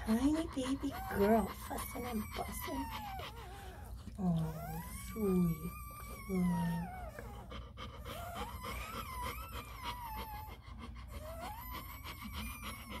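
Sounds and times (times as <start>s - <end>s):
puppy crying high-pitched whines: 0.0s - 13.0s.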